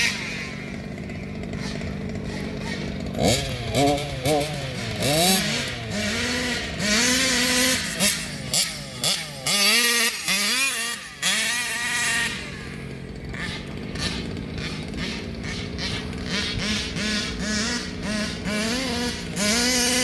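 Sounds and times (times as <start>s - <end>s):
rc car engine revving: 0.0s - 20.0s.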